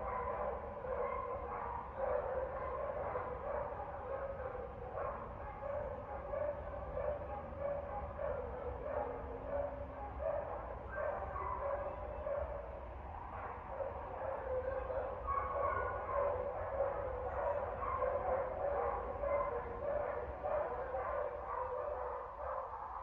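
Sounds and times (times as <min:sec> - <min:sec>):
dog barking: 0:00.0 - 0:23.0.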